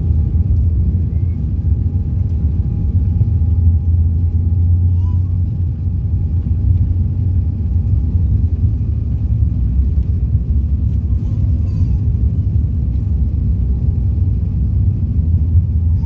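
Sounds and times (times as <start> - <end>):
airliner engine rumble: 0.0 - 16.0.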